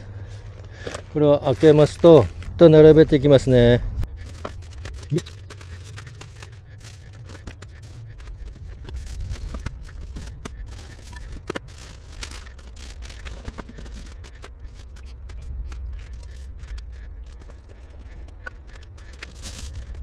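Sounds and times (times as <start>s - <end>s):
camping gear rustling and clicking: 0.1s - 2.7s, 4.0s - 20.0s
low rumble: 2.2s - 20.0s.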